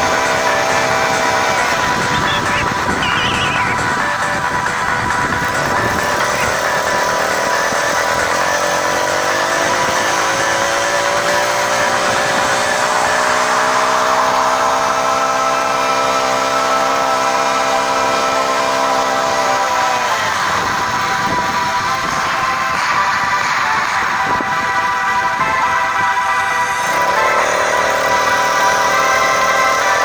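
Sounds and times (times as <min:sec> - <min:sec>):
motorized bicycle engine running: 0:00.0 - 0:30.0.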